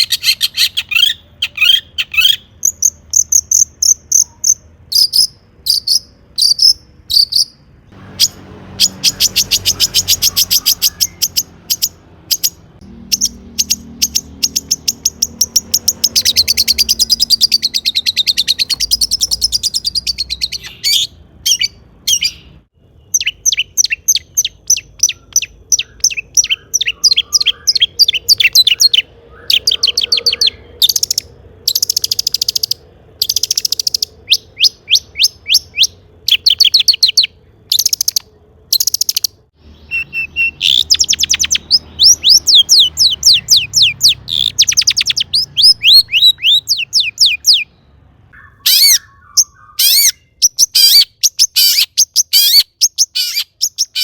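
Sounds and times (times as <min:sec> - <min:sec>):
bird singing high chattering notes: 0:00.0 - 0:54.0.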